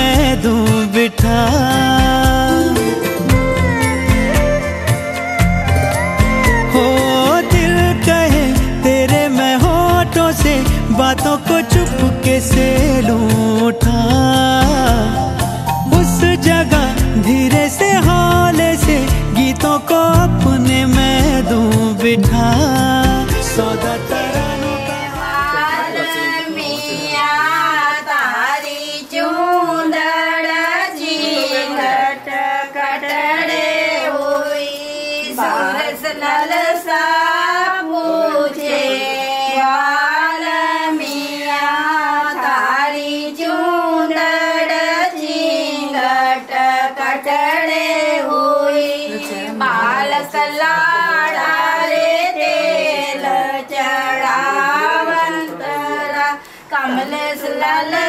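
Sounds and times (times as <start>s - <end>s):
women singing: 0.0s - 58.0s.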